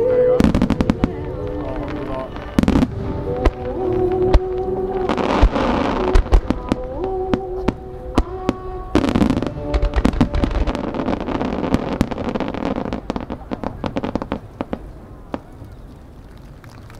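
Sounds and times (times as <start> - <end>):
firework crackles and pops: 0.4 - 16.9.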